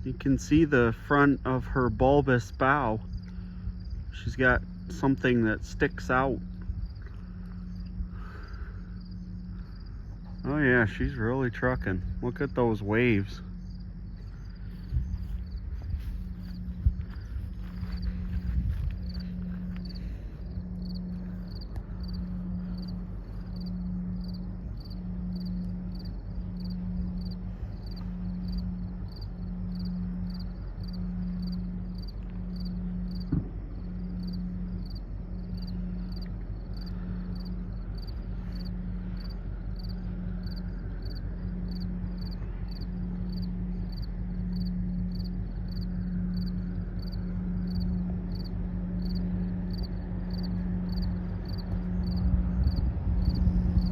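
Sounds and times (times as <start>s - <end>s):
insects chirping: 0.0s - 53.9s
low rumble: 0.0s - 53.9s
pulsing low hum: 0.0s - 53.9s.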